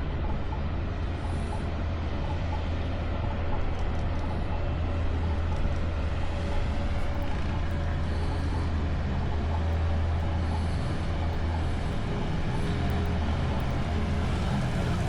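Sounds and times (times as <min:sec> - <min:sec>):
street noise: 0:00.0 - 0:15.0
vehicle engine rumbling: 0:00.0 - 0:15.0.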